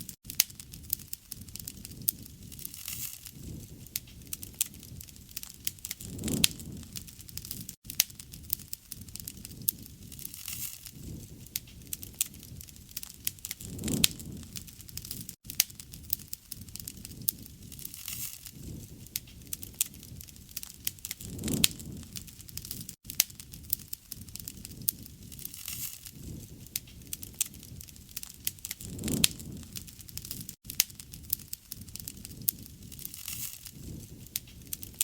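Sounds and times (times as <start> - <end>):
campfire crackling and popping: 0.0 - 35.0
low rush of flames: 0.0 - 35.0.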